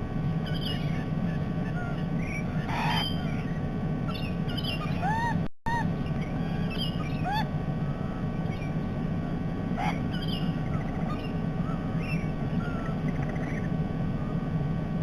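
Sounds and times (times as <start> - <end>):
low background rumble: 0.0 - 15.0
rising bird whistles: 0.4 - 8.8, 9.8 - 14.5
bird calls and chirps: 0.4 - 8.9, 9.8 - 14.5.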